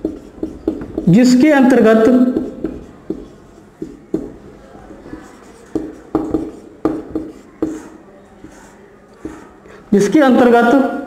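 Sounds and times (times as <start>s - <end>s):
marker squeaking on whiteboard: 0.0s - 9.8s.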